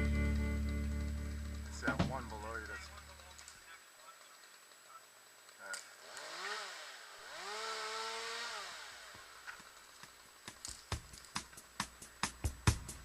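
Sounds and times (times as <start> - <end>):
chainsaw revving: 0.0 - 3.4, 4.5 - 11.7.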